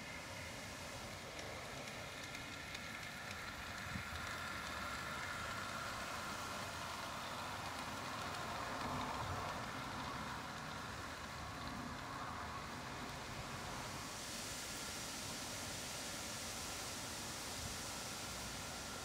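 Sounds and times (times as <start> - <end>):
faint motor hum: 0.0 - 19.0
model train rolling on track: 0.0 - 19.0.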